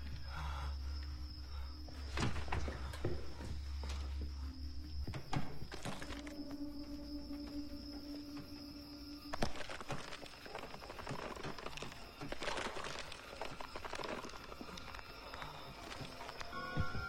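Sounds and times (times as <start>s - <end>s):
membrane crackling and rustling: 2.0s - 8.6s, 9.2s - 17.0s.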